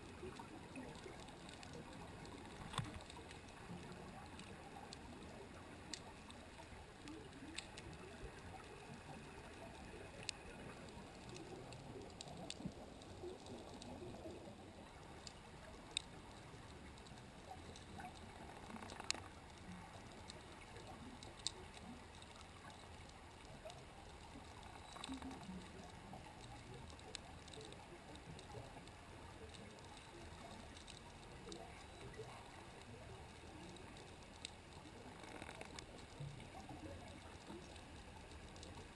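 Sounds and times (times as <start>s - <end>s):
sharp underwater clicks: 0.0s - 38.9s
underwater hiss and rumble: 0.0s - 38.9s.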